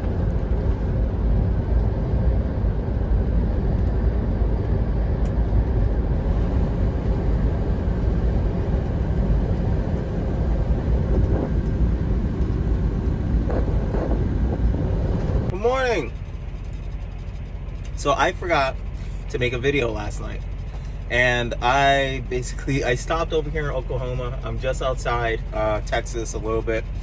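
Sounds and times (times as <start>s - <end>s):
road noise: 0.0s - 27.0s
truck engine drone: 0.0s - 27.0s.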